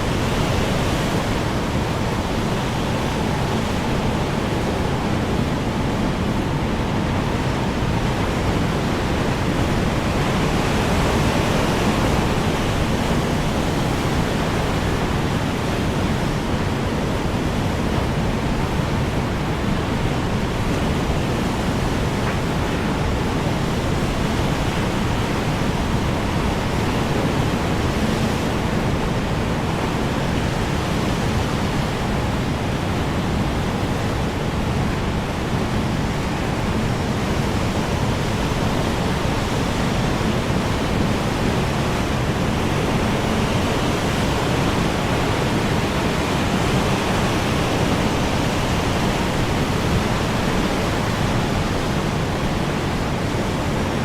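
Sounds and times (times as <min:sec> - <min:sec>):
strong wind blowing: 0:00.0 - 0:54.0.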